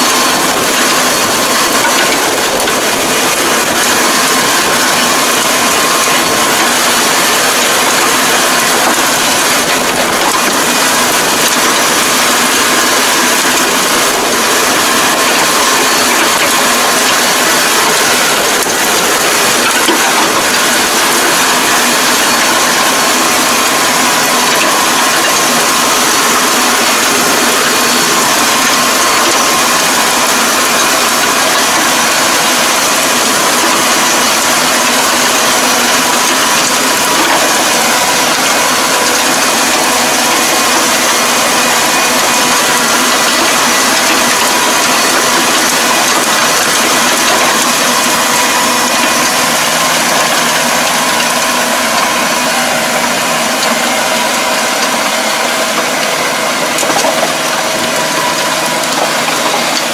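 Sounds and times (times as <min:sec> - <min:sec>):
drive whine: 0:00.0 - 0:59.9
rotary tiller churning mud: 0:00.0 - 0:59.9
tractor engine under load: 0:00.0 - 0:59.9.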